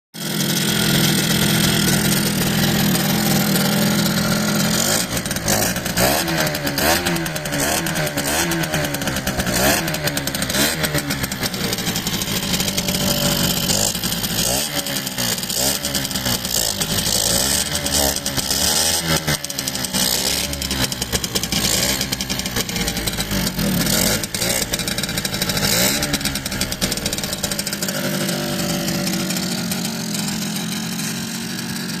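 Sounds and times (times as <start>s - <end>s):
two-stroke motorcycle engine revving: 0.2s - 32.0s.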